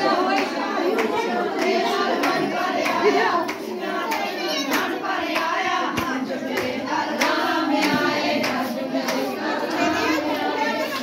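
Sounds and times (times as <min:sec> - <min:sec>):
group singing devotional song: 0:00.0 - 0:11.0
hand clapping: 0:00.1 - 0:10.4.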